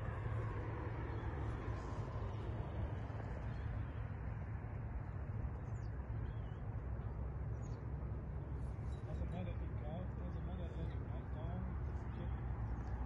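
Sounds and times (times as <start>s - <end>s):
low rumble with hiss: 0.0s - 13.0s.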